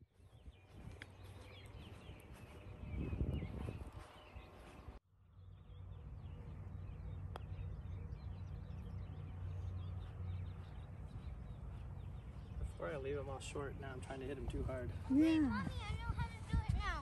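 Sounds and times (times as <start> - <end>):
birds chirping: 0.0 - 17.0
low wind rumble on microphone: 0.0 - 17.0.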